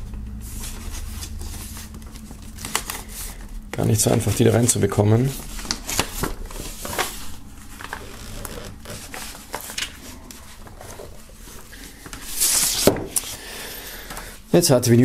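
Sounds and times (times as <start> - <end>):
paper sleeve rustling and scraping: 0.4 - 13.4.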